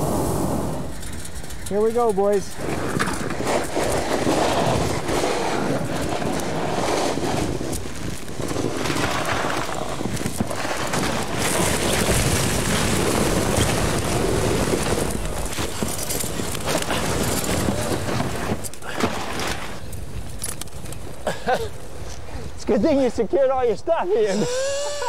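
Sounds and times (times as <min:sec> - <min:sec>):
wind buffeting microphone: 0:00.0 - 0:24.1.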